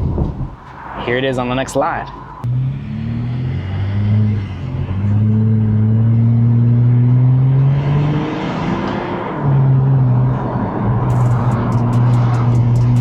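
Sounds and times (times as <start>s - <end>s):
car engine accelerating: 2.0s - 13.0s.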